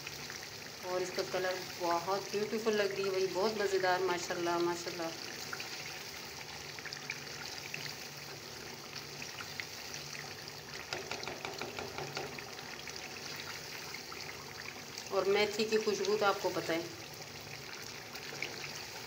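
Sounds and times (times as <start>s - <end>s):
gravy bubbling and sizzling: 0.0s - 19.0s.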